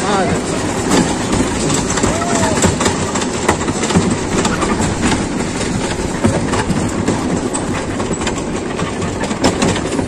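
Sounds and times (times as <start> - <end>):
roller coaster chain lift rattling: 0.0 - 10.0.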